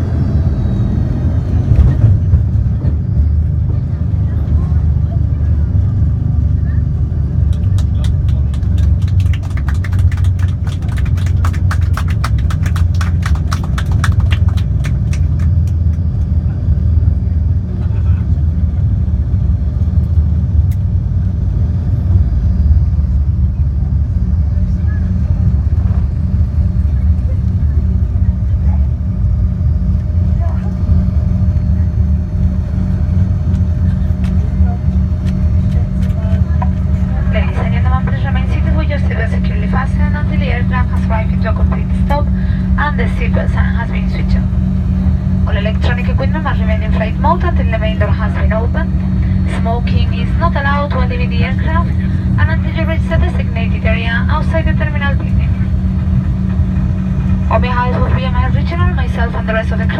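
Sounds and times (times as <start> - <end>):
jet cabin rumble on ground: 0.0 - 59.9
faint steady whine: 2.3 - 59.9.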